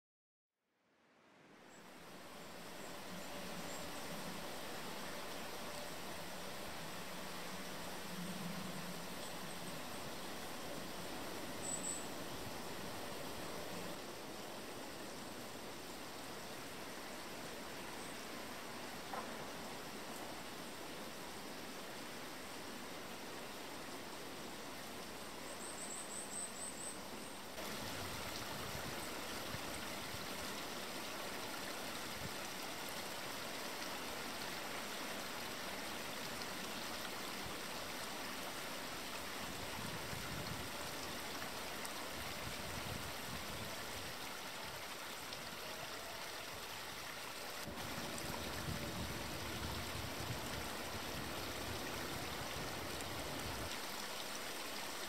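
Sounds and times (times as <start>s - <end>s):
stream water rushing: 1.1s - 25.7s, 26.9s - 55.0s.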